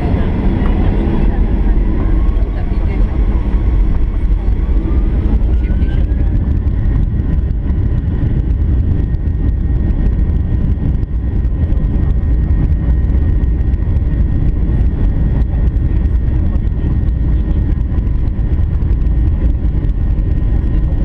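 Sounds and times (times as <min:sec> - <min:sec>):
faint steady whine: 0:00.0 - 0:21.0
jet engines rumbling: 0:00.0 - 0:21.0.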